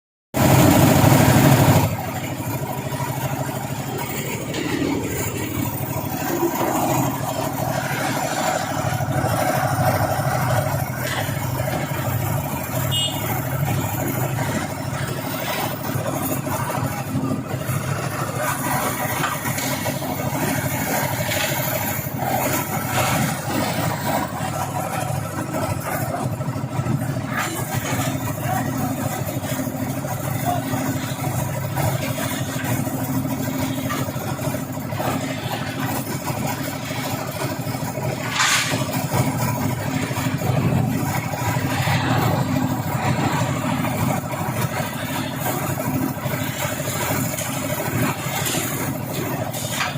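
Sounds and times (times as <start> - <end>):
engine running: 0.4 - 49.9.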